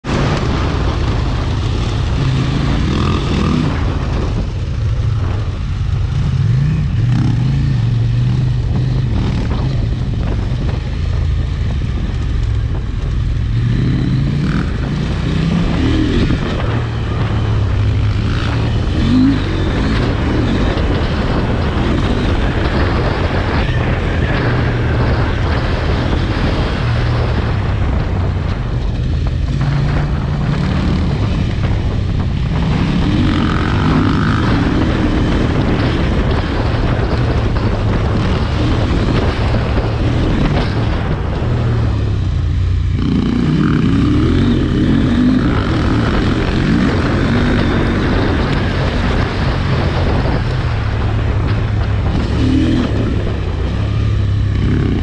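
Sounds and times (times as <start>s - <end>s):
motorcycle engine revving: 0.0s - 55.0s
steady rushing noise: 0.0s - 55.0s.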